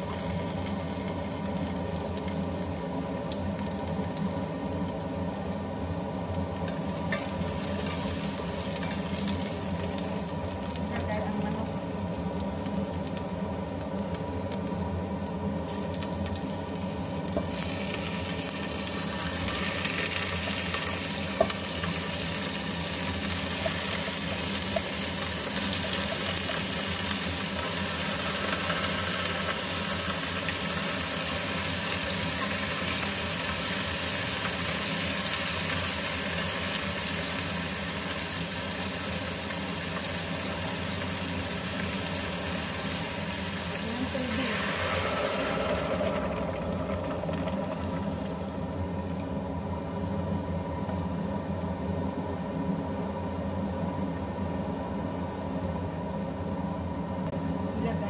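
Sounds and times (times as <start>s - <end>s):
chicken sizzling in a pot: 0.0s - 49.8s
steady low hum: 0.0s - 58.0s.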